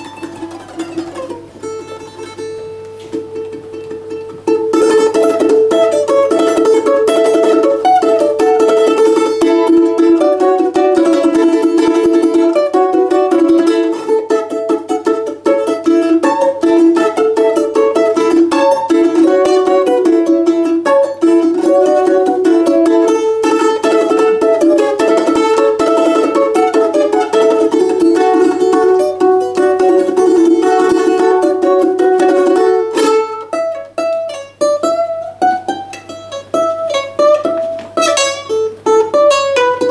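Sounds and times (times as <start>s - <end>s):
plucked string tremolo melody: 0.0s - 39.9s.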